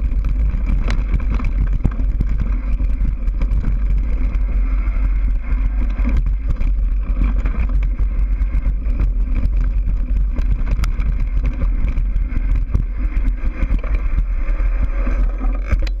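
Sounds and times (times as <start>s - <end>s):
bike rattling over bumps: 0.0s - 16.0s
wind buffeting microphone: 0.0s - 16.0s.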